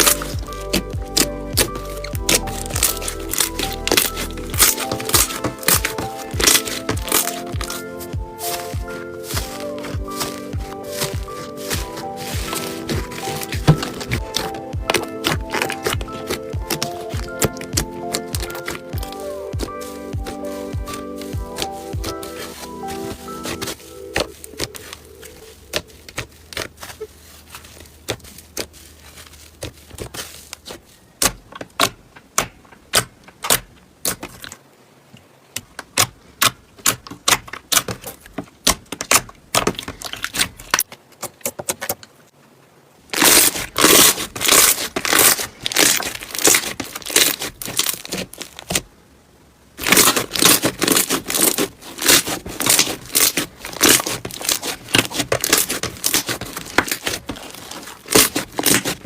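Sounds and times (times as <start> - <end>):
slime popping and crackling: 0.0 - 34.6, 43.1 - 48.9, 49.8 - 59.0.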